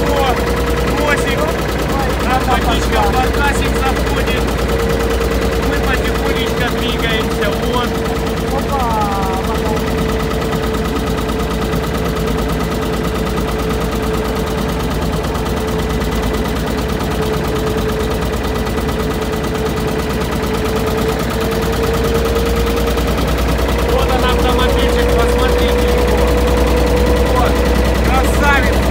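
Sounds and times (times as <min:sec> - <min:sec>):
motor boat engine running: 0:00.0 - 0:28.9.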